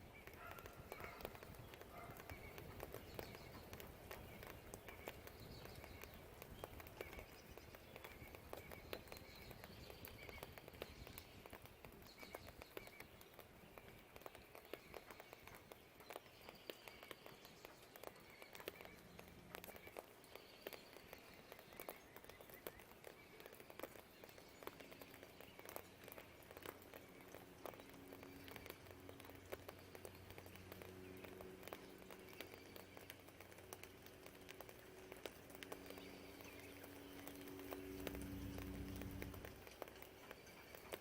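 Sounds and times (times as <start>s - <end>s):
birds chirping: 0.0s - 41.0s
rain drops tapping: 0.0s - 41.0s.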